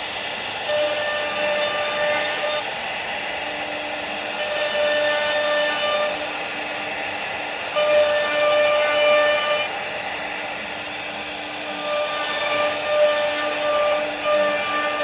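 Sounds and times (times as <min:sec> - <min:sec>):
router spindle carving wood: 0:00.0 - 0:15.0.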